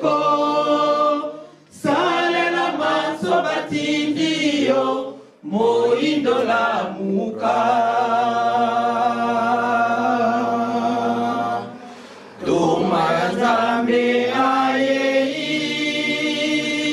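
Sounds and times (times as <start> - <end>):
unaccompanied voices singing a hymn: 0.0 - 16.9.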